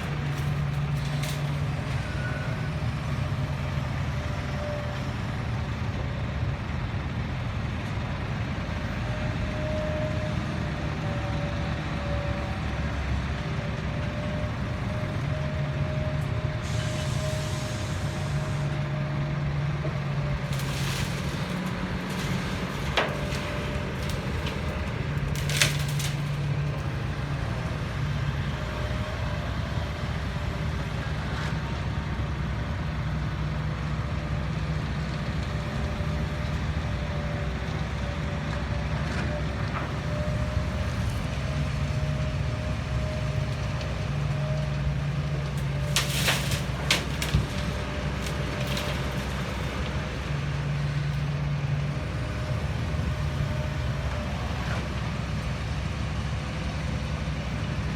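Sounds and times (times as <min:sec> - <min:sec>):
diesel construction machinery running: 0:00.0 - 0:57.9.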